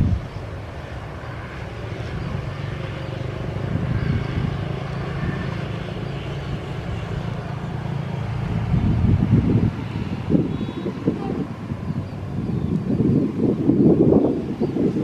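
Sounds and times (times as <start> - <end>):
motorcycles passing: 0.0 - 15.0.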